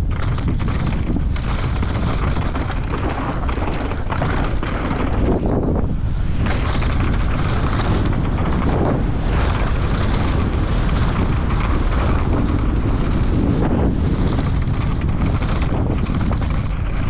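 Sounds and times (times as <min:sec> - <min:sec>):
bike rattling: 0:00.0 - 0:17.0
bike tyres on dirt trail: 0:00.0 - 0:17.0
wind rumble on microphone: 0:00.0 - 0:17.0.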